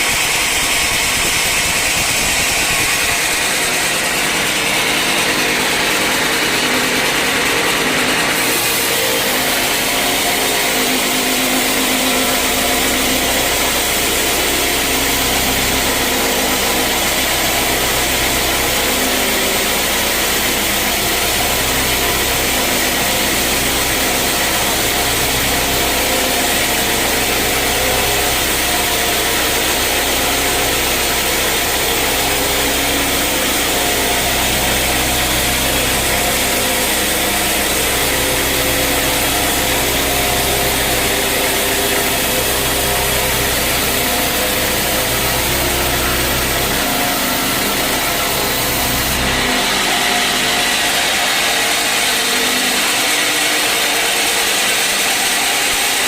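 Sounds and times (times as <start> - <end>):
sawmill machinery running: 0.0 - 56.0
deep hum: 0.8 - 54.4.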